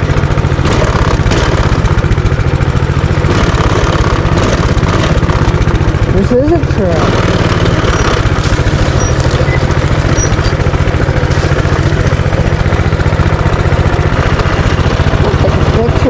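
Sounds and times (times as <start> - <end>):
small engine putt-putt: 0.0 - 16.0.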